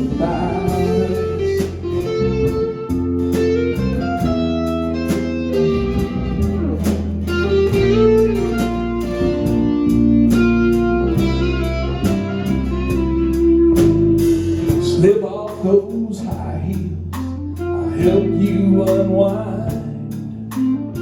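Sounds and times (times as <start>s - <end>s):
slow country instrumental music: 0.0s - 21.0s.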